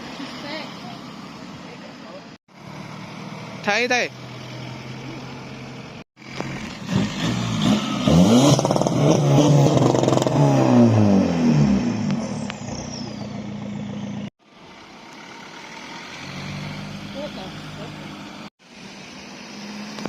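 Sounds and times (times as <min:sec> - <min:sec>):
car engine revving and idling: 0:02.5 - 0:20.0.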